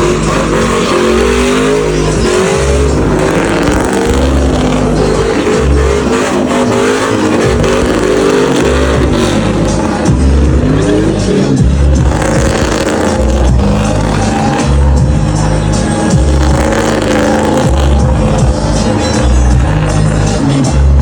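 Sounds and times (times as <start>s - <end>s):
engine revving hard: 0.0s - 21.0s.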